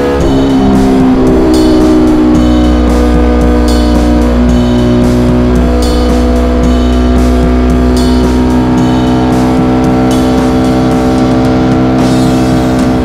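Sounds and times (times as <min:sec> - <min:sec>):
motorcycle engine at steady revs: 0:00.0 - 0:13.0.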